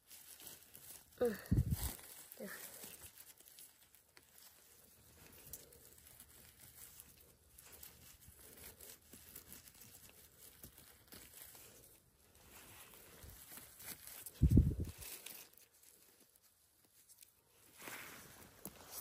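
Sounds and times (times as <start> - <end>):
faint rustling: 0.0 - 19.0
soft crackles: 0.0 - 19.0.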